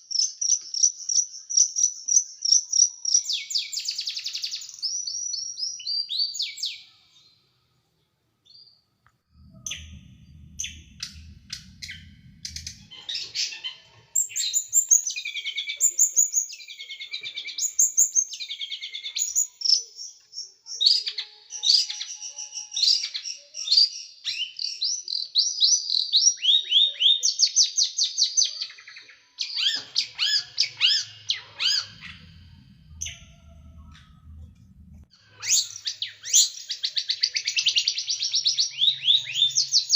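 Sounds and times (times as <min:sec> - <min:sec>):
songbird chirping rapidly: 0:00.0 - 0:07.1, 0:08.4 - 0:39.9.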